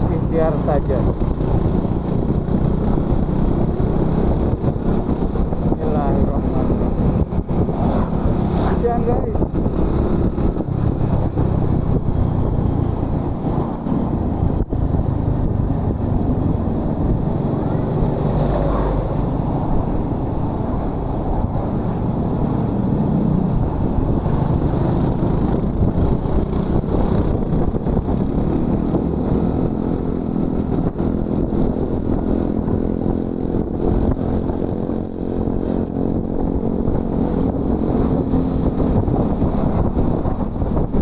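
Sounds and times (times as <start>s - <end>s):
motorcycle engine running: 0.0s - 41.0s
wind rush on microphone: 0.0s - 41.0s.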